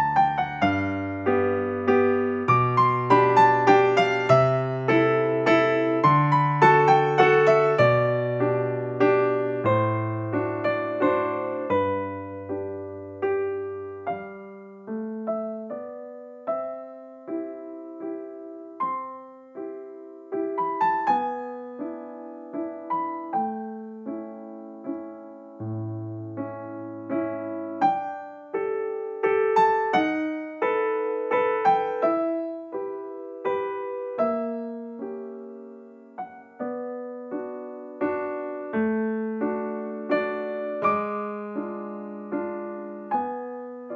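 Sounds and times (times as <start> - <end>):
slow piano melody: 0.0 - 43.9.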